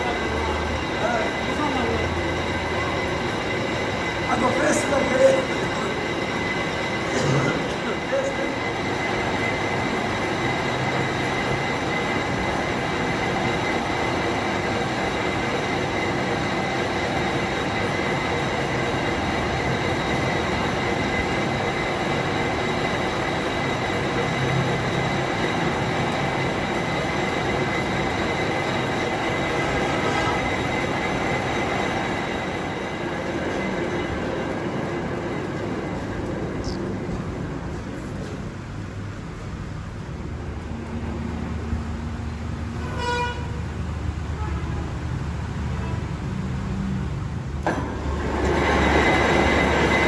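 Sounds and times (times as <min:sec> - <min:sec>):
workshop machine whining: 0:00.0 - 0:50.0.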